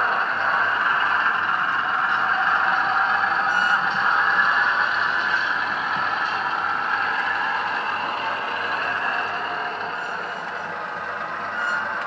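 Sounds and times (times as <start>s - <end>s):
diesel engine sound from small speaker: 0.0s - 12.0s.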